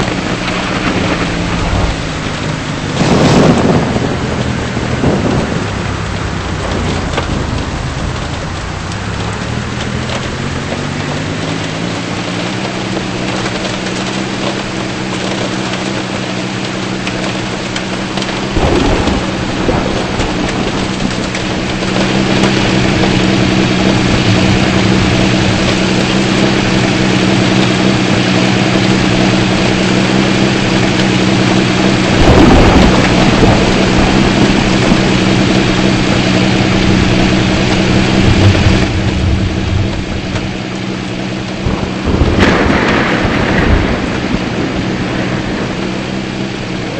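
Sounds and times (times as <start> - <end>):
heavy rain pouring: 0.0 - 46.9
thunder rumbling: 0.0 - 46.9
vehicle low hum: 0.0 - 46.9.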